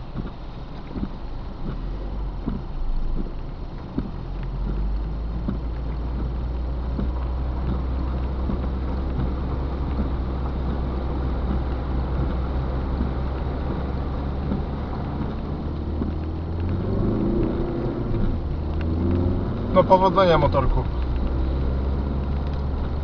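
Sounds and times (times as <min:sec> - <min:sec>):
car interior low rumble: 0:00.0 - 0:23.0
light ticks of rain: 0:00.0 - 0:23.0
water swishing under tyres: 0:00.0 - 0:23.0.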